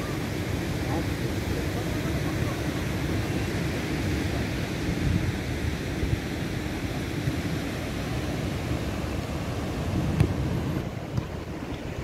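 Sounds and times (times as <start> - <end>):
ocean surf rushing: 0.0 - 12.0.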